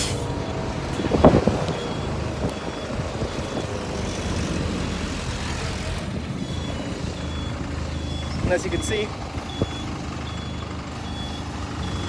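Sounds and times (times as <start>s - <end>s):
reversing alarm beeping: 0.0s - 4.8s, 6.3s - 12.0s
heavy vehicle engine running: 0.0s - 12.0s.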